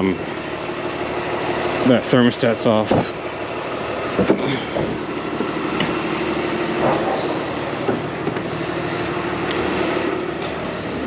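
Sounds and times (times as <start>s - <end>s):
machinery droning: 0.0s - 11.0s.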